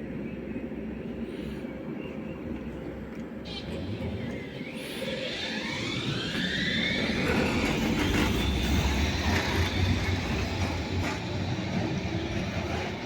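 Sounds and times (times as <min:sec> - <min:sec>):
tram motors whining: 0:00.0 - 0:13.0
wheels rumbling on rails: 0:00.0 - 0:13.0.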